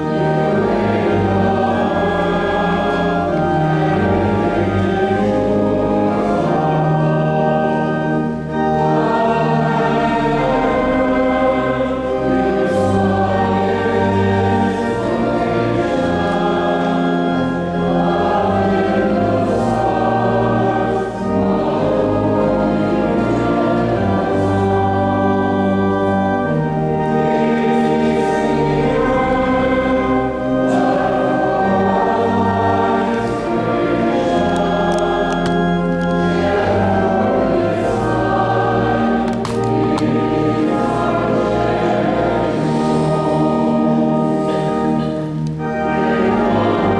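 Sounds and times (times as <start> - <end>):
choir singing: 0.0 - 46.9.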